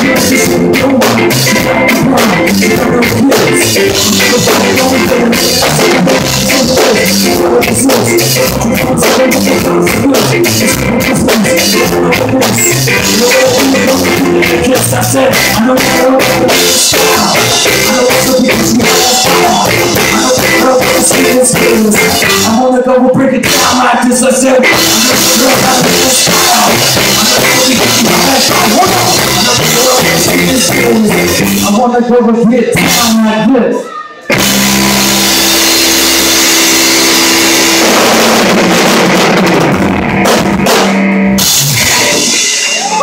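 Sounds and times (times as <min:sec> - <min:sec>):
drum kit: 0:00.0 - 0:31.8, 0:32.8 - 0:33.3, 0:34.3 - 0:43.0
electric guitar: 0:00.0 - 0:31.8, 0:33.8 - 0:43.0
singer singing: 0:00.0 - 0:38.6.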